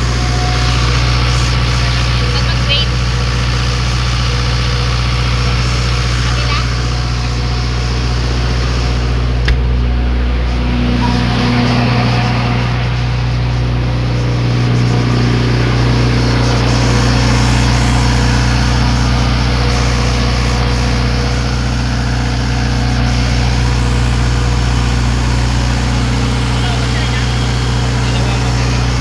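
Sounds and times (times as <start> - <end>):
diesel generator humming: 0.0 - 29.0.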